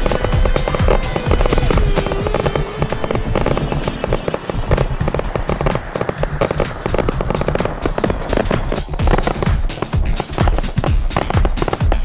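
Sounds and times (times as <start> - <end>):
fireworks crackling and popping: 0.0 - 12.0
music playing: 0.0 - 12.0.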